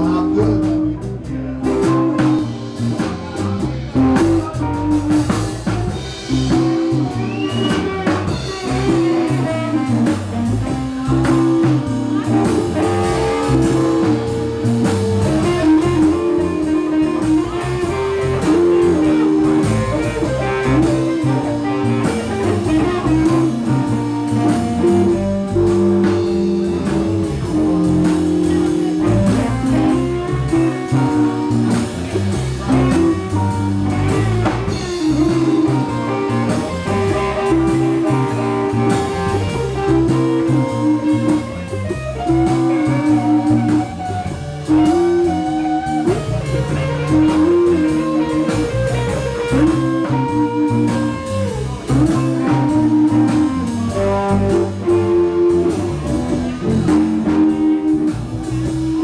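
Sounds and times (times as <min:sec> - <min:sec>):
blues band playing: 0:00.0 - 0:59.0
lead guitar held notes: 0:00.0 - 0:59.0.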